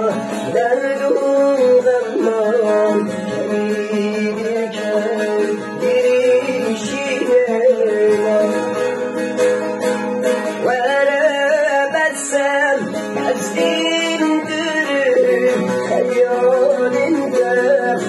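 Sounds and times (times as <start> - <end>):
plucked strings with bending melody: 0.0 - 18.0.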